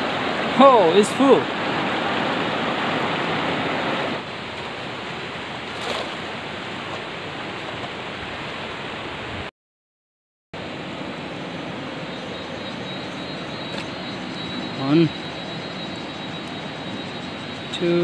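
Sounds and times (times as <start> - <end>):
river water flowing over stones: 0.0 - 9.4, 10.6 - 18.0.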